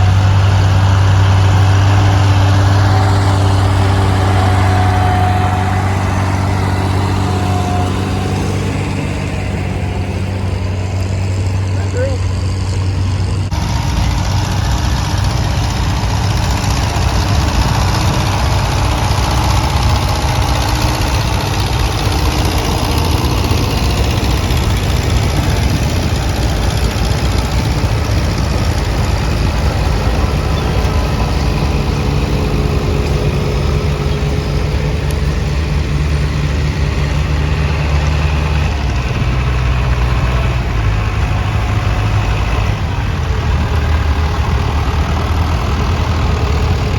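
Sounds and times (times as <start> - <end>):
tractor engines running under load: 0.0 - 46.9.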